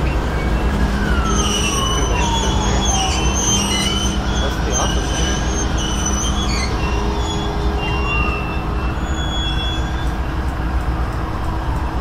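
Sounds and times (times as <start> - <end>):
high-pitched wheel squeals: 0.0 - 10.6
diesel locomotives droning: 0.0 - 12.0
train low rumble: 0.0 - 12.0.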